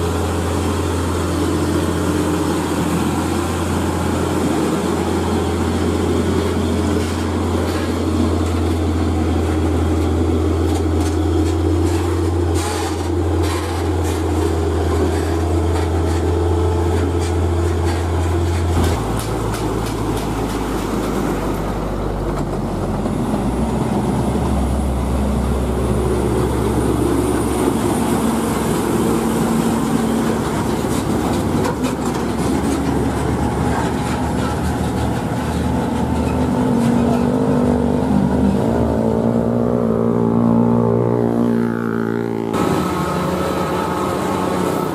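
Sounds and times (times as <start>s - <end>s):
trailer clattering and rattling: 0.0s - 39.3s
truck engine droning: 0.0s - 44.9s
truck engine passing: 0.0s - 44.9s.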